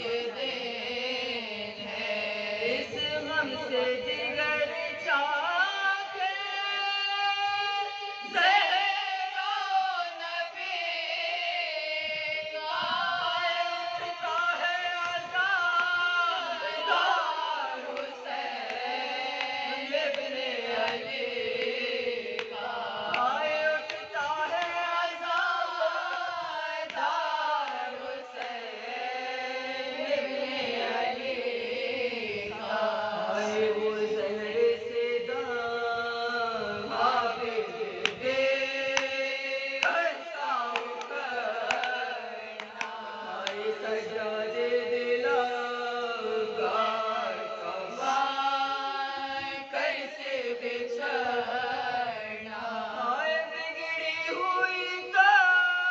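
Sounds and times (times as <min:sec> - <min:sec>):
women singing a slow chant: 0:00.0 - 0:55.9.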